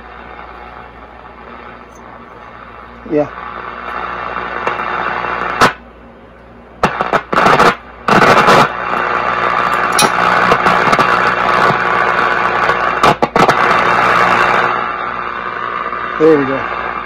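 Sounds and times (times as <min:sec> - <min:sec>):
radio static hiss and crackle: 0:00.0 - 0:06.0, 0:06.7 - 0:17.0.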